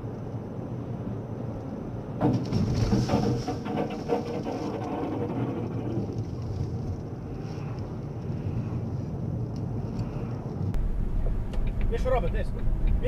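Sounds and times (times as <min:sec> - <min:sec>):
car road and engine rumble: 0:00.0 - 0:13.0
wind noise: 0:00.0 - 0:13.0.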